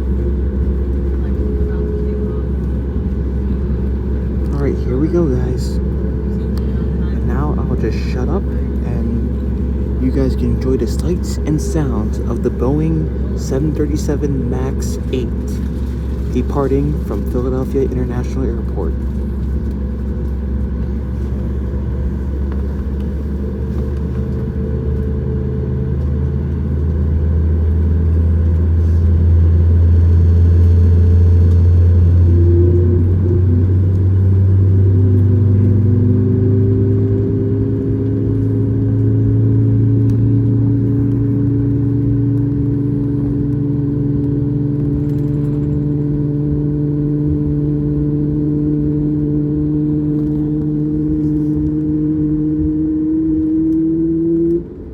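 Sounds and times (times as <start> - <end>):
jet engine rumble in cabin: 0.0 - 54.9.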